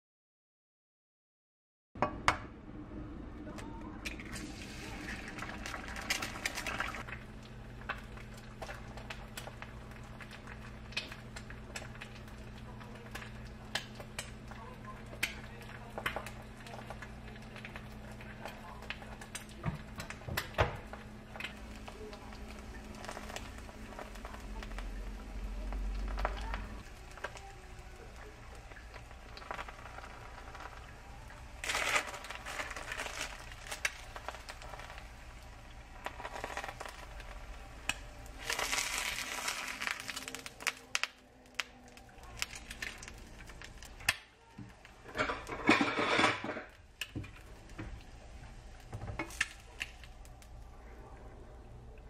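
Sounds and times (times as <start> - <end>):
low steady hum: 2.0 - 52.0.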